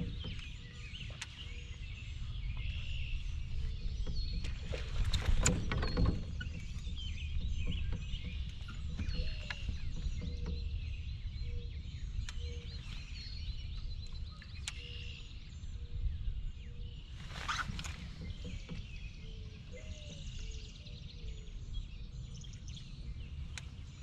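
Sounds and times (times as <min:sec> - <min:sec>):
songbirds chirping and whistling: 0:00.0 - 0:24.0
steady low rumble: 0:00.0 - 0:24.0.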